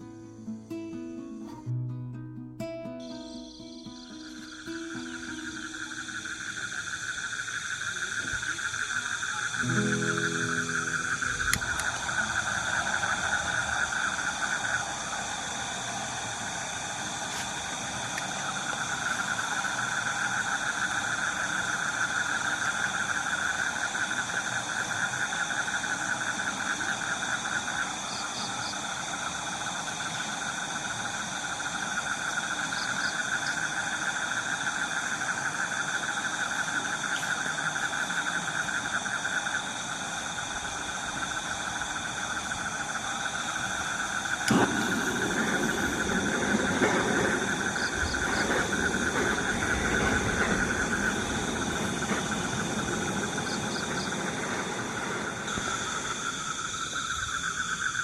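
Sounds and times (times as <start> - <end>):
insects buzzing: 2.7 - 58.0.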